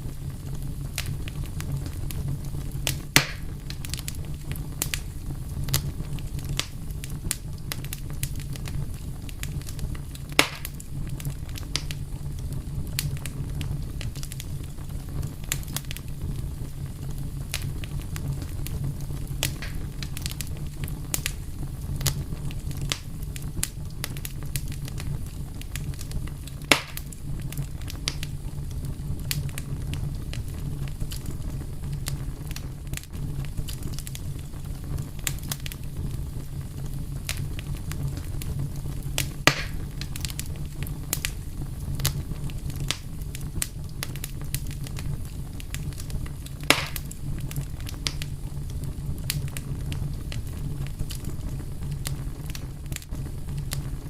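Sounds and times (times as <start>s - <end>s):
fire crackling: 0.0s - 54.0s
loud fire pops: 0.0s - 54.0s
low rumble of fire: 0.0s - 54.0s.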